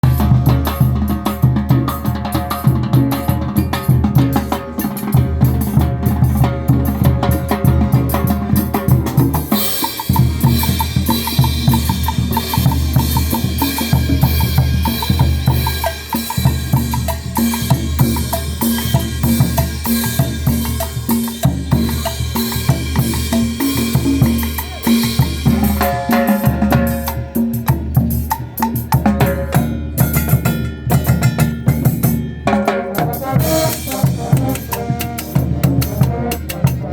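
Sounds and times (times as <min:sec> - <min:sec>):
band music: 0:00.0 - 0:36.9
bass drum and snare beat: 0:00.0 - 0:36.9.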